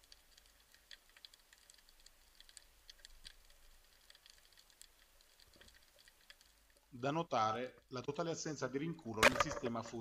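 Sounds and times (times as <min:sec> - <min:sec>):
underwater clicks and crackles: 0:00.0 - 0:07.0, 0:08.9 - 0:10.0.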